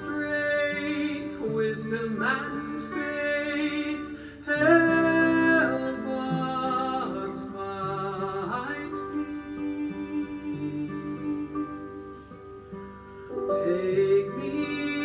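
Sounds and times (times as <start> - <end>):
person singing long notes: 0.0 - 12.4, 13.3 - 15.0
soft instrumental accompaniment: 0.0 - 15.0.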